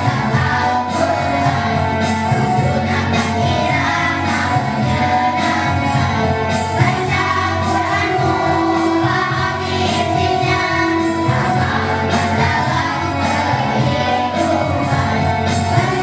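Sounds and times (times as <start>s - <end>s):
children's choir singing: 0.0s - 16.0s
music with steady beat: 0.0s - 16.0s.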